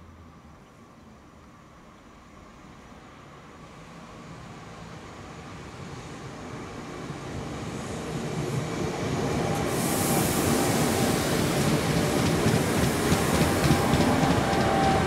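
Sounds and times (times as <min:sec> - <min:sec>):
rail noise hiss: 0:01.5 - 0:15.0
train passing close by: 0:02.4 - 0:15.0.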